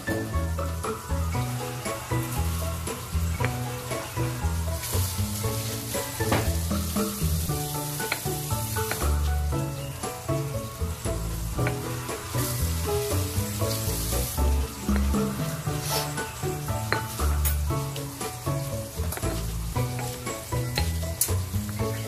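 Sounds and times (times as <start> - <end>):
background music with bass line: 0.0 - 22.0.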